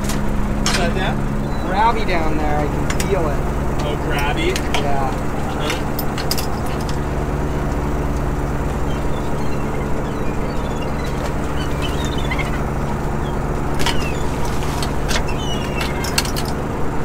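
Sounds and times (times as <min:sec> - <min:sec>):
boat engine humming: 0:00.0 - 0:17.0
gulls calling: 0:00.0 - 0:17.0.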